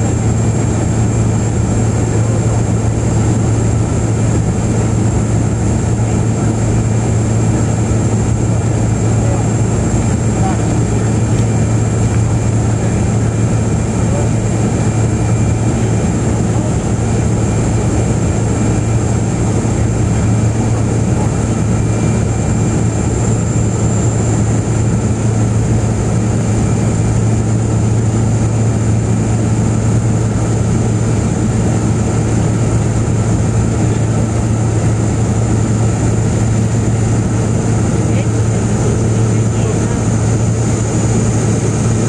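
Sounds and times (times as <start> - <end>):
high engine whine: 0.0 - 42.0
low propeller hum: 0.0 - 42.0
turboprop engine drone: 0.0 - 42.0.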